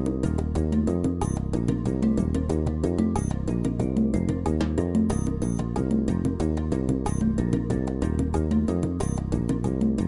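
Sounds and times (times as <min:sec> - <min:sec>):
music with quick steady beat: 0:00.0 - 0:10.0.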